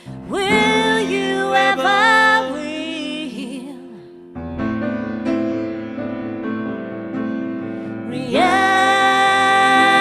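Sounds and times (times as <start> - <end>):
piano playing chords: 0.0 - 10.0.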